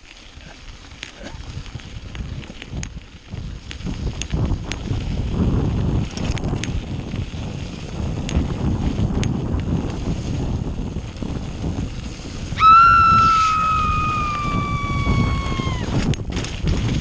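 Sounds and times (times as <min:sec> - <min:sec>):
bike clicks and rattles: 0:00.0 - 0:12.5, 0:13.4 - 0:17.0
tyres on gravel: 0:00.0 - 0:17.0
wind rumbling on microphone: 0:00.0 - 0:17.0.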